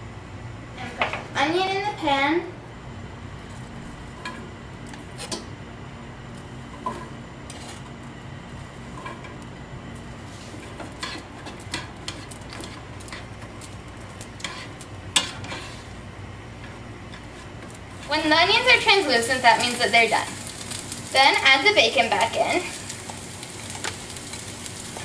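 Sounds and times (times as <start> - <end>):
faint sizzle: 0.7 - 25.0.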